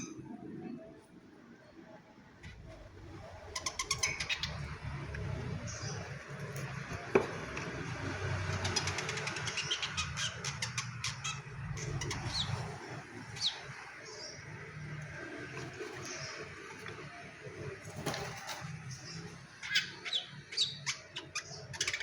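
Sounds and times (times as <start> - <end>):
songbird chatter and chirps: 0.0 - 22.0.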